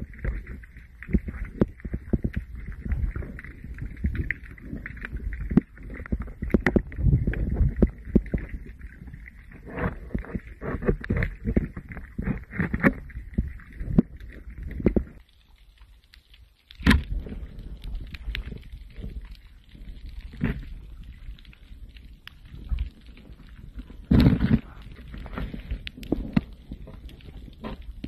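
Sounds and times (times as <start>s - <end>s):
muffled underwater water movement: 0.0s - 28.0s.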